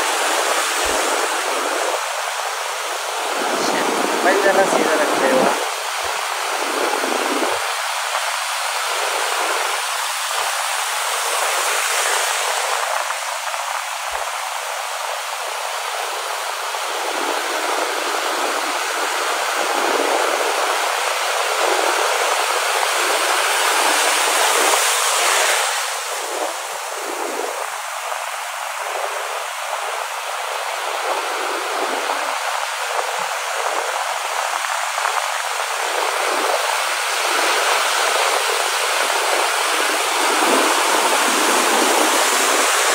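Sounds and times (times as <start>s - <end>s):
sea surf breaking: 0.0s - 42.9s.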